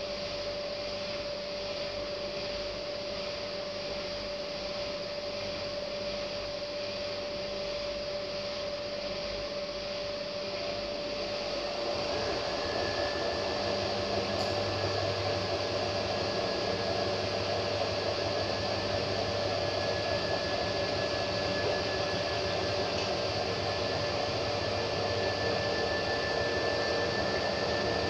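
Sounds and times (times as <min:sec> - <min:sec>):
washing machine running: 0:00.0 - 0:28.0.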